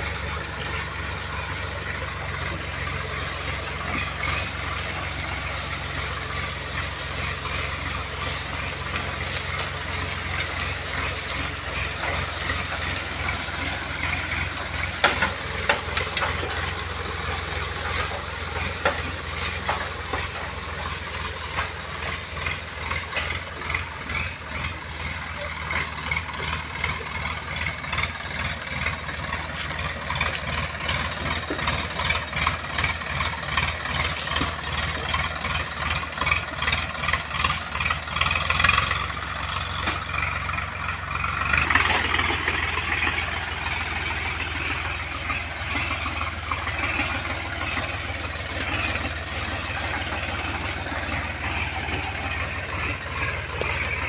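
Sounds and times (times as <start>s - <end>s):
harrow discs scraping soil: 0.0s - 54.0s
tractor diesel engine running: 0.0s - 54.0s.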